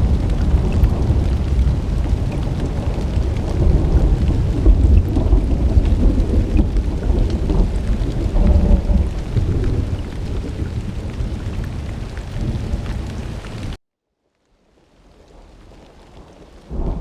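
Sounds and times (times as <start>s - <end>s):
rolling thunder: 0.0s - 13.8s
steady rain: 0.0s - 17.0s.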